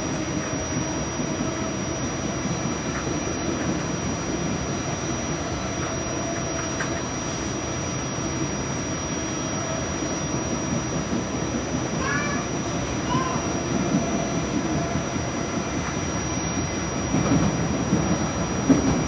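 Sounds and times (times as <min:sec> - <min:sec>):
light-rail car rumble: 0:00.0 - 0:19.0.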